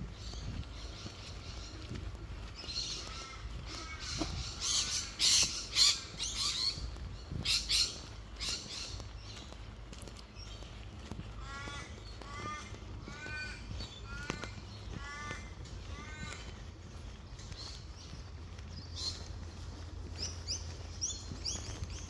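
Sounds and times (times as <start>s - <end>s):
birds calling harshly: 0.0s - 22.0s.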